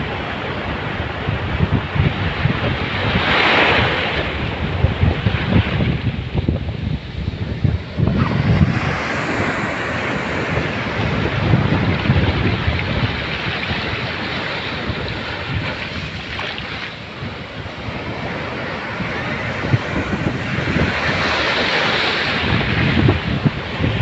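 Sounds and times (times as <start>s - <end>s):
surf breaking on beach: 0.0s - 24.0s
wind buffeting microphone: 0.0s - 24.0s.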